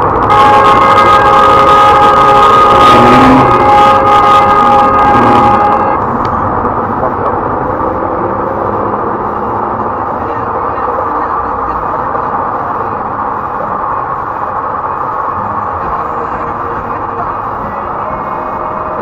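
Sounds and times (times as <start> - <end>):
road noise inside moving car: 0.0 - 19.0.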